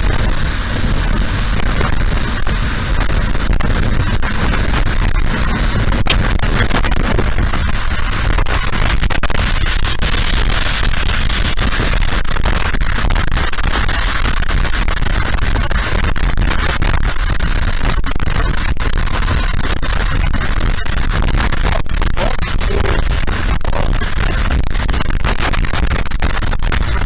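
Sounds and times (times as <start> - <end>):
low road rumble: 0.0 - 27.0
wind rushing on microphone: 0.0 - 27.0.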